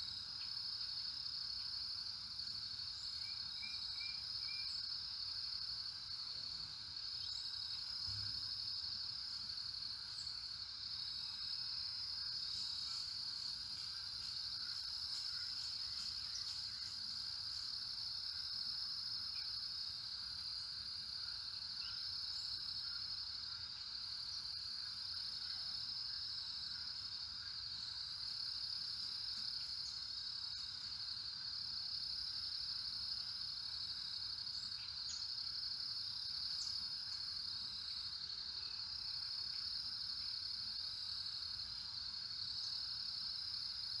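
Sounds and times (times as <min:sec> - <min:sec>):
insects chorus: 0:00.0 - 0:44.0.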